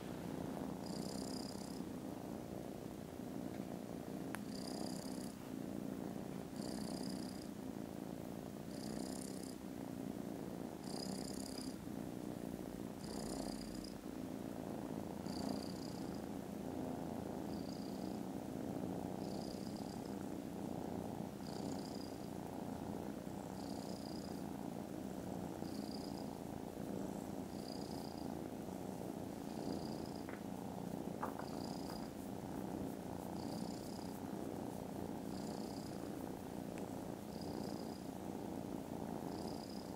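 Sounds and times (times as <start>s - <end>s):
faint high hiss: 0.0s - 39.9s
kitten purring: 0.0s - 39.9s.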